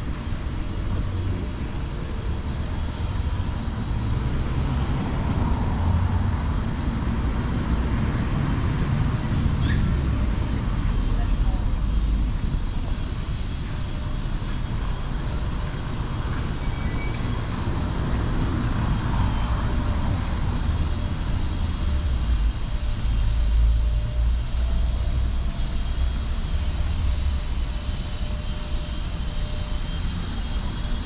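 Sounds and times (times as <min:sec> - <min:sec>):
city street traffic rumble: 0:00.0 - 0:31.0.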